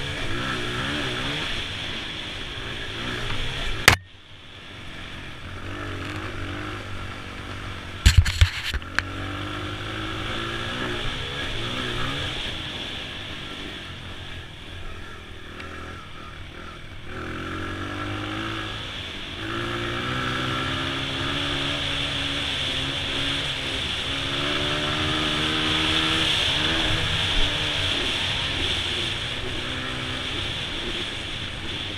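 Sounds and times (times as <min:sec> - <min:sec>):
dirt bike engine revving: 0:00.0 - 0:04.0, 0:04.9 - 0:31.9.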